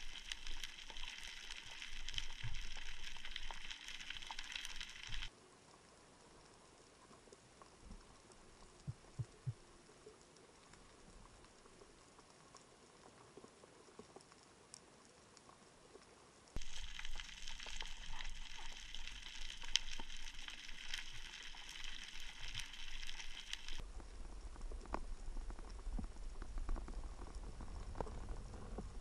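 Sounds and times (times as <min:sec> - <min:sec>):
faint underwater ambience: 0:00.0 - 0:29.0
underwater crackle of clicks: 0:00.0 - 0:29.0.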